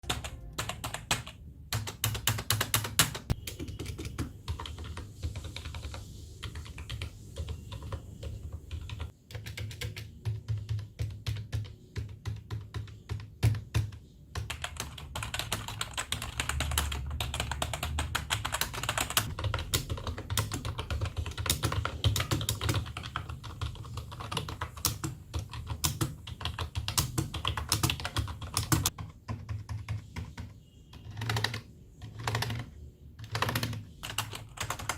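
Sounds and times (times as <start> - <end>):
fast keyboard typing clicks: 0.0 - 34.9.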